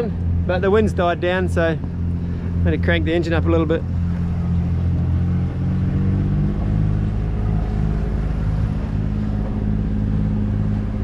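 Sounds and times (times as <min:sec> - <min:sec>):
diesel boat engine running: 0:00.0 - 0:11.0.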